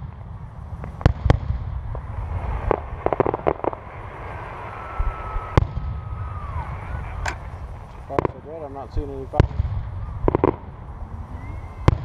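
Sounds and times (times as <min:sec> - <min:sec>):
firework crackles: 0:00.0 - 0:12.0
loud firework bang: 0:00.8 - 0:10.8, 0:11.8 - 0:12.0.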